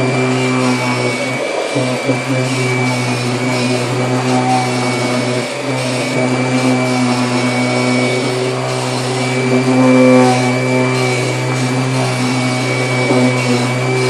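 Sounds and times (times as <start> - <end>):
upright vacuum cleaner whining: 0.0 - 14.0.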